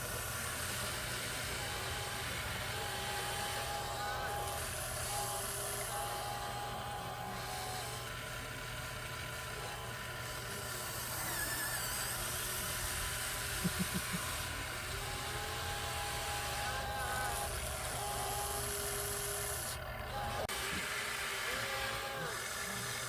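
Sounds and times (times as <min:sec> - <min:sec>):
toy truck motor and gear whine: 0:00.0 - 0:23.0.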